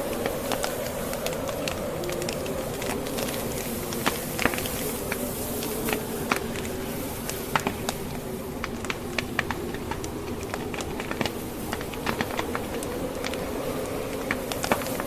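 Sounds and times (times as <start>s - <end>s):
howling blizzard wind: 0.0s - 15.0s
wood fire crackling and popping: 0.0s - 15.0s.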